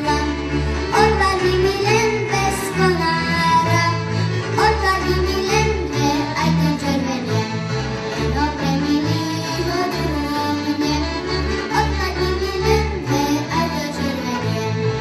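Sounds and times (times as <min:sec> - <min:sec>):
folk band with accordion and fiddle: 0:00.0 - 0:15.0.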